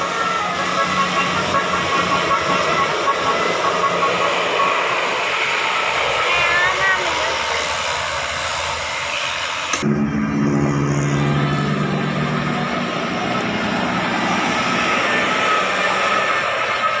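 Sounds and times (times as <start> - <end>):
low engine hum: 0.0 - 17.0
traffic noise: 0.0 - 17.0.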